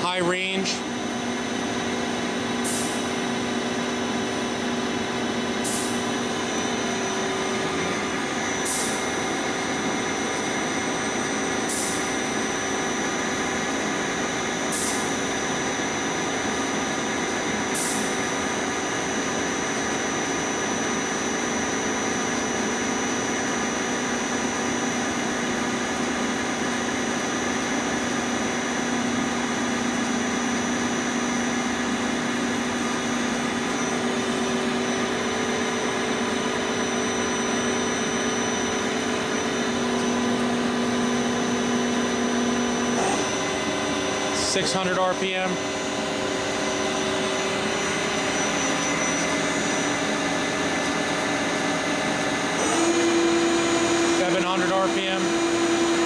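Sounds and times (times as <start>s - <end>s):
boring mill humming with gear whine: 0.0s - 56.0s.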